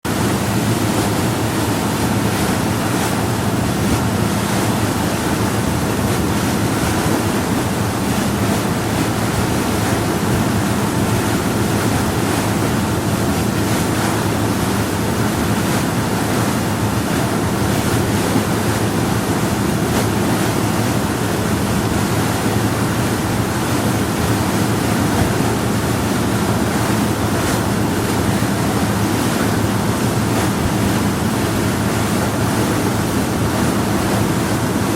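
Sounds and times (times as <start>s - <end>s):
water rushing along hull: 0.0s - 34.9s
boat engine drone: 0.1s - 34.9s.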